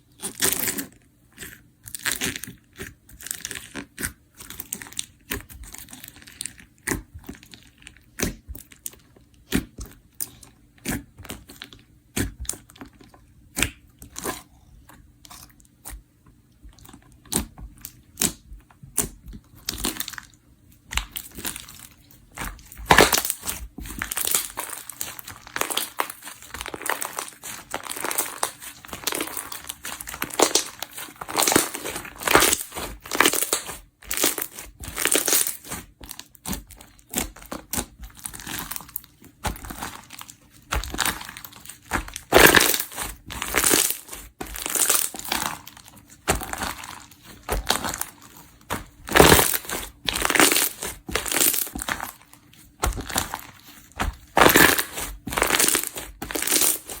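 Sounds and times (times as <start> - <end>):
slime squishing by hand: 0.0 - 57.0.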